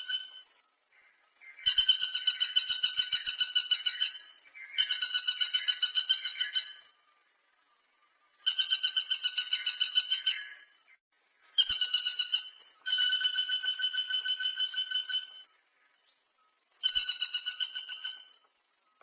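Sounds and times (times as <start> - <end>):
woodpecker rattling call: 0.0 - 7.0, 8.4 - 19.0.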